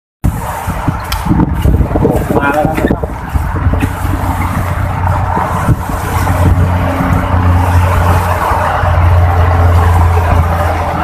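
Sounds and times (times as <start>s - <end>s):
rushing noise: 0.2s - 11.0s
vehicle engine droning: 0.2s - 11.0s.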